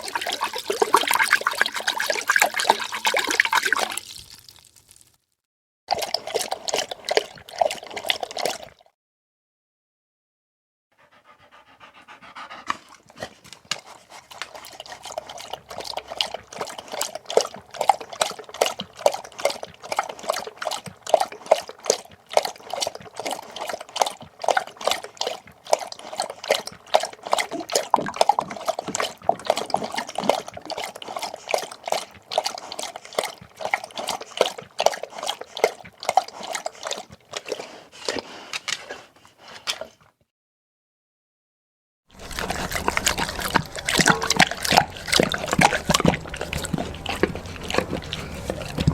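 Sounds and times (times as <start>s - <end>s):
dog lapping water: 0.0s - 4.5s, 5.9s - 8.9s, 11.0s - 40.0s, 42.1s - 48.9s.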